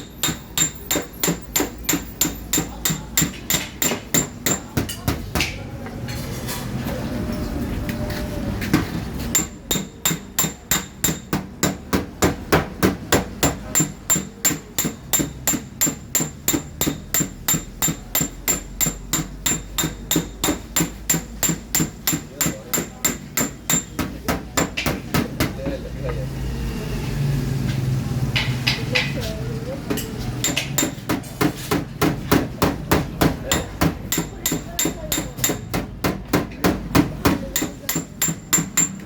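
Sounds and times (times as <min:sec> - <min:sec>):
hammer tapping sheet metal: 0:00.0 - 0:05.6, 0:08.8 - 0:25.6, 0:29.9 - 0:39.0.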